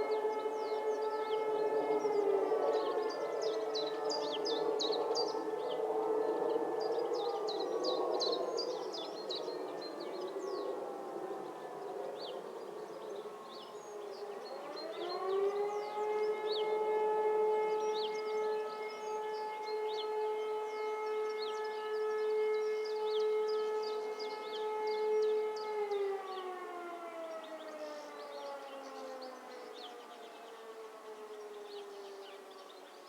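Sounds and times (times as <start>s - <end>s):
distant siren winding down: 0.0s - 32.8s
motor siren wailing: 0.0s - 33.0s.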